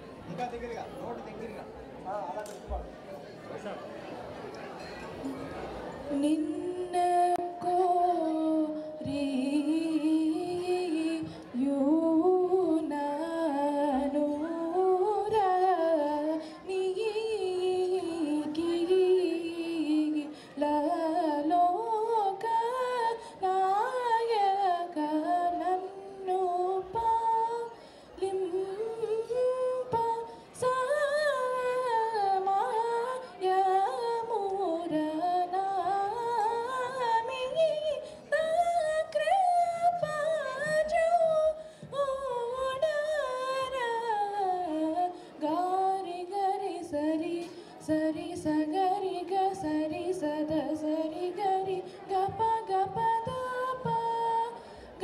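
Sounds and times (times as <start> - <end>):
girl singing into a microphone: 6.0 - 55.0.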